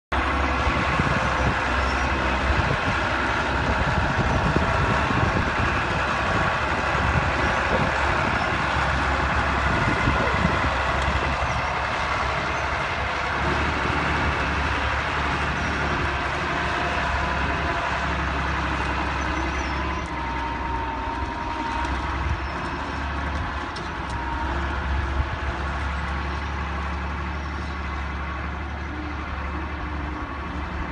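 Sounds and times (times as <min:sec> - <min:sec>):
tractor diesel engine under load: 0:00.1 - 0:30.9.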